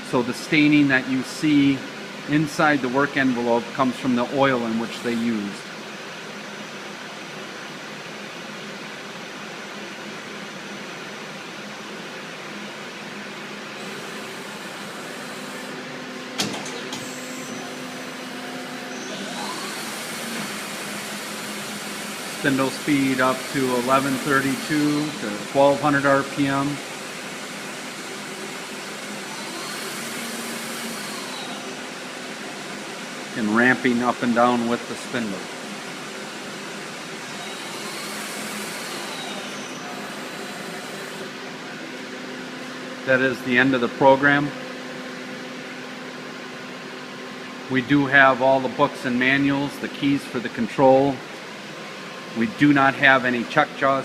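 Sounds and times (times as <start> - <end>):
lathe machine hum: 0.0 - 53.8.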